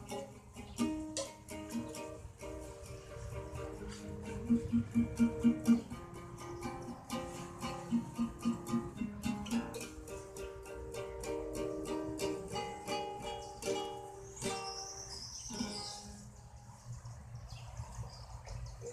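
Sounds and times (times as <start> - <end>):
guitar plucked notes: 0.0 - 16.2.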